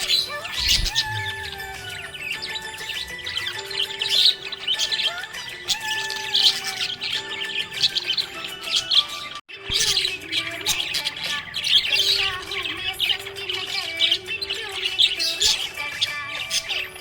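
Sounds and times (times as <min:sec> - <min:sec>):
budgies chirping and chattering: 0:00.0 - 0:17.0.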